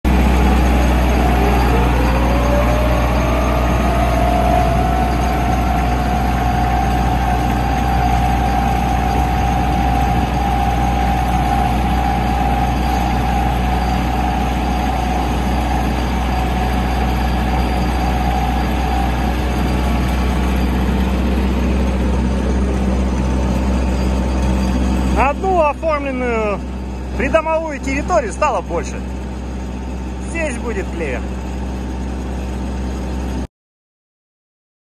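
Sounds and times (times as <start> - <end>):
tractor engine running: 0.0 - 33.5
rising whine: 0.1 - 33.5.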